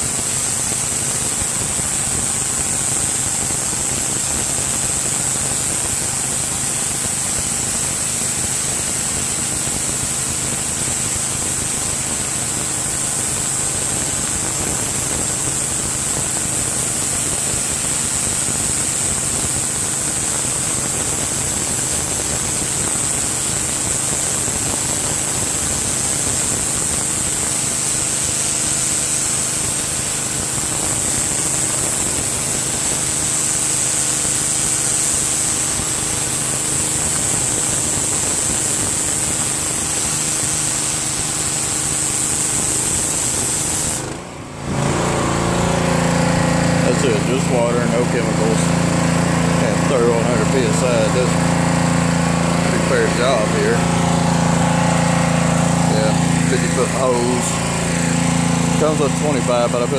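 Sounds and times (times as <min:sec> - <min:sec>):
high-pressure spray hissing on concrete: 0:00.0 - 0:59.9
pressure washer engine hum: 0:00.0 - 0:59.9.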